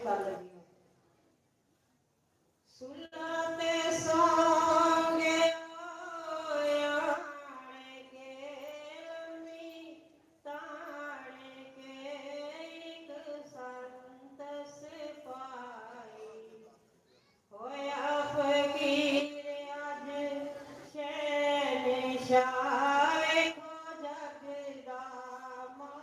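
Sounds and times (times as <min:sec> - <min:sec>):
woman singing a hymn: 0:02.8 - 0:16.4, 0:17.6 - 0:26.0.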